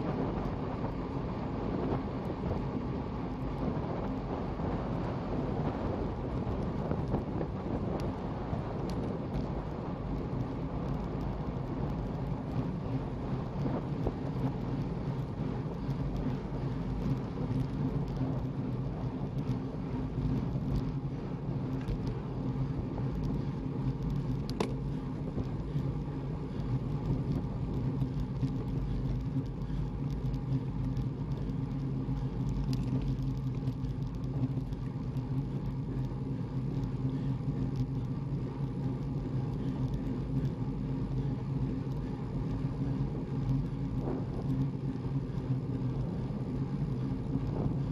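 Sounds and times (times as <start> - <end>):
road and wind noise: 0.0 - 47.9
vehicle engine hum: 0.0 - 47.9.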